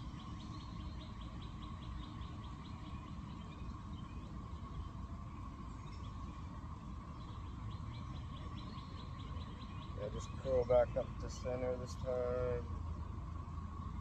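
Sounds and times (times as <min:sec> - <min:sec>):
bird chirping trill: 0:00.0 - 0:14.0
faint hum: 0:00.0 - 0:14.0
low background rumble: 0:00.0 - 0:14.0.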